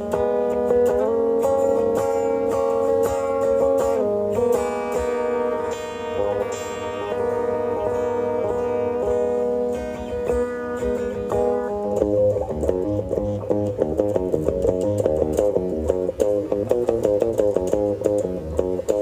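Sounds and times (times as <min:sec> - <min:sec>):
guitar music: 0:00.0 - 0:19.0.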